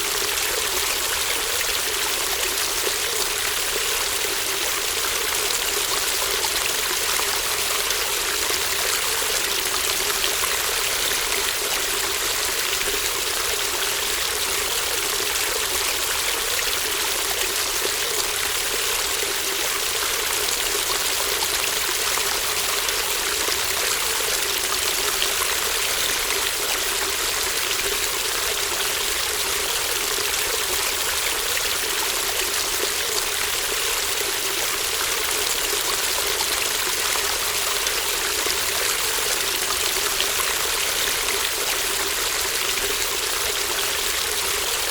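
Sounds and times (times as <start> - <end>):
brook water running: 0.0 - 44.9.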